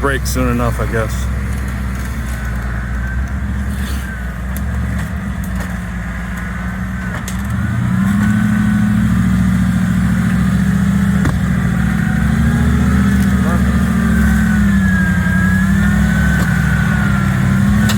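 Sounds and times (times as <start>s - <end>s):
engine revving under load: 0.0s - 17.9s.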